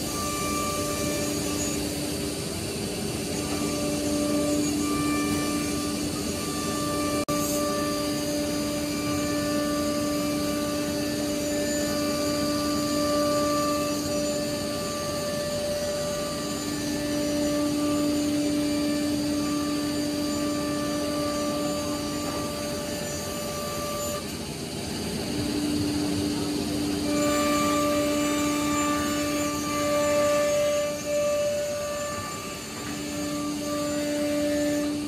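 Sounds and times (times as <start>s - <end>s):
hiss of routing and dust extraction: 0.0s - 35.0s
router spindle whine: 0.0s - 35.0s.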